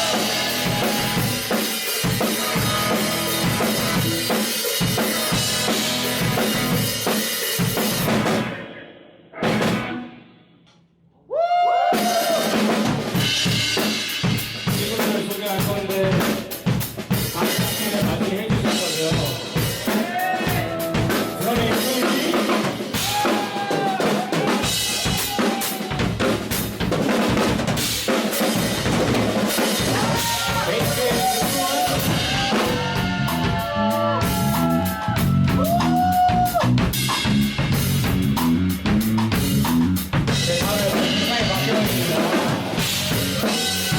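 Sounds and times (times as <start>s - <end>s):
live band music: 0.0s - 8.6s, 9.4s - 10.2s, 11.9s - 43.9s
drum kit: 0.0s - 8.8s, 9.4s - 10.8s, 11.8s - 43.9s.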